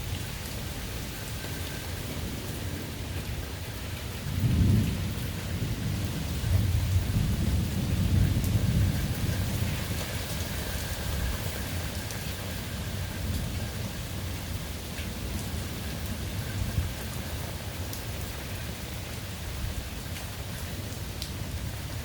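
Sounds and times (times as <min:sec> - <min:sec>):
thunder rumbling: 0:00.0 - 0:20.4
steady rain falling: 0:00.0 - 0:22.0.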